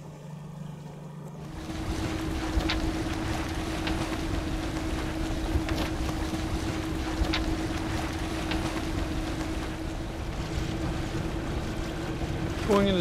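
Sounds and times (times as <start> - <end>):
steady low hum: 0.0 - 13.0
water washing past boat: 1.4 - 13.0.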